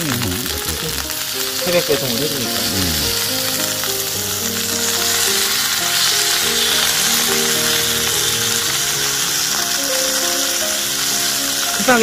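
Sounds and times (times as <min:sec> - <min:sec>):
background music: 0:00.0 - 0:12.0
food sizzling in a frying pan: 0:00.0 - 0:12.0.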